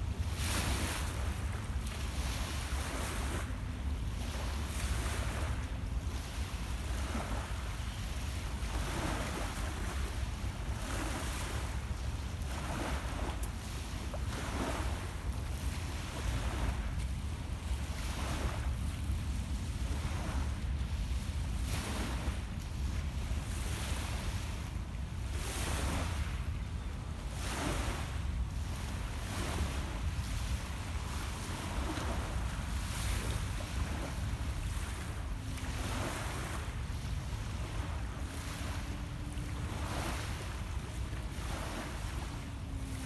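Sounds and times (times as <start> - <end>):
waves lapping on pebbles: 0.0 - 43.0
wind rumble on microphone: 0.0 - 43.0.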